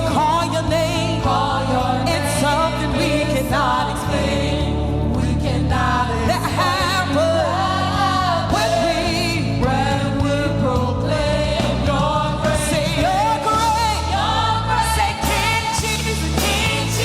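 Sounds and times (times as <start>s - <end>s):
band accompaniment: 0.0s - 17.0s
person singing with vibrato: 0.0s - 17.0s.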